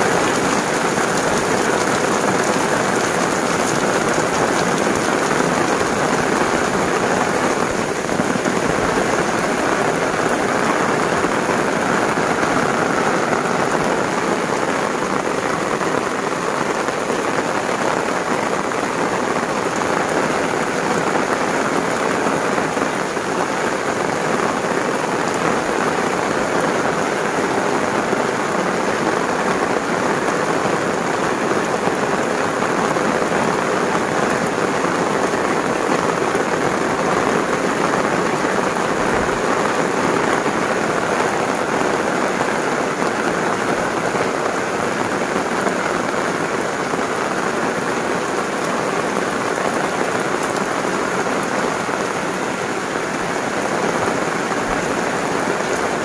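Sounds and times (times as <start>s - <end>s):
heavy rain on concrete and plants: 0.0s - 56.0s.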